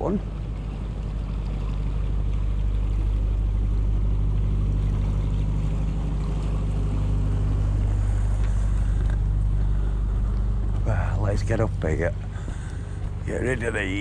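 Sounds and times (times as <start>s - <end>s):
boat engine chugging: 0.0s - 14.0s.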